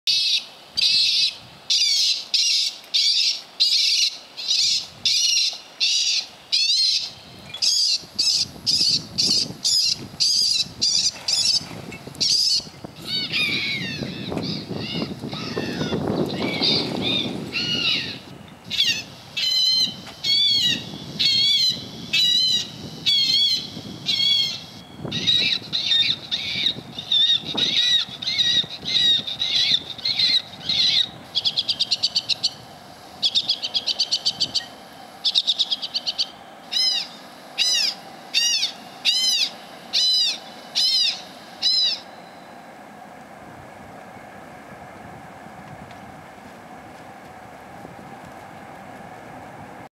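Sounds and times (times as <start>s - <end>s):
electronic bird-like calls: 0.1s - 32.6s, 33.2s - 42.6s.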